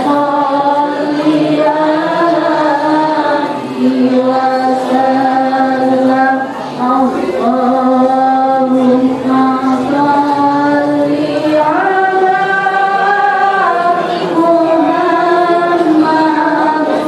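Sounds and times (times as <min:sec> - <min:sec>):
voices chanting slow melody: 0:00.0 - 0:17.0.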